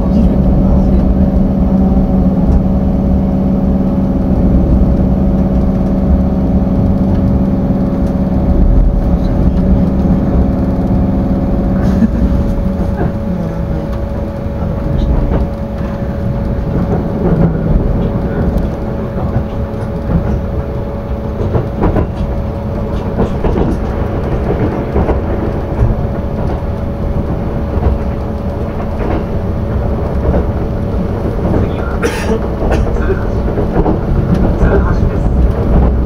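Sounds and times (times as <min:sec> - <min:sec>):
constant hum: 0:00.0 - 0:36.0
train wheels rumbling on rail: 0:00.0 - 0:36.0.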